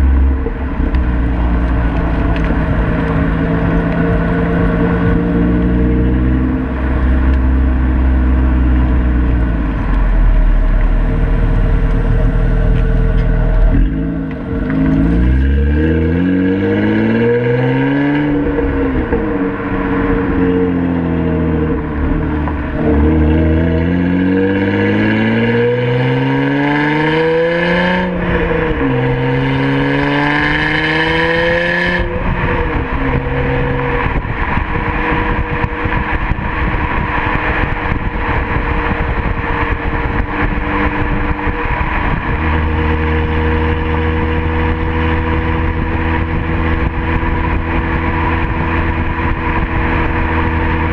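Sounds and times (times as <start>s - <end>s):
car engine accelerating and cruising: 0.0s - 50.9s.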